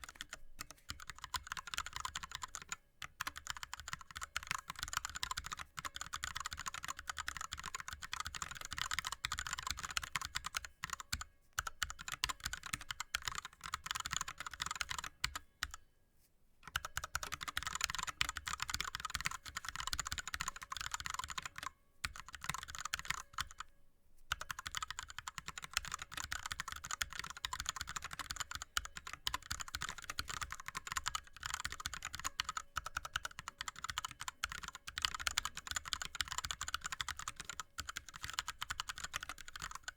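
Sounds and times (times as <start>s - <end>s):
fast typing on keyboard: 0.0s - 15.8s, 16.7s - 23.7s, 24.3s - 39.9s.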